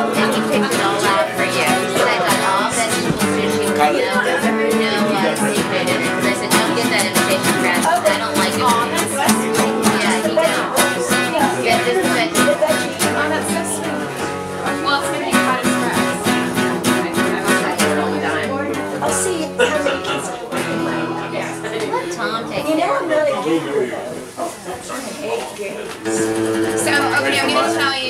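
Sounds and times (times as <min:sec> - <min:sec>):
acoustic guitar strumming chords: 0:00.0 - 0:22.8, 0:26.0 - 0:28.0.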